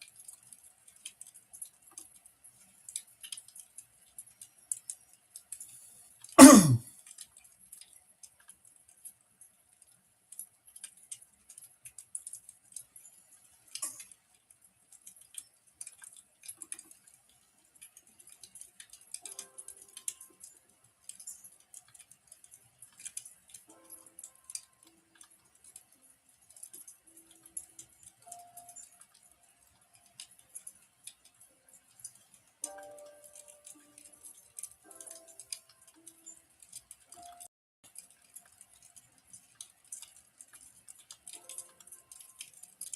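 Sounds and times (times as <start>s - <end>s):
wood fire crackling: 0.1s - 42.9s.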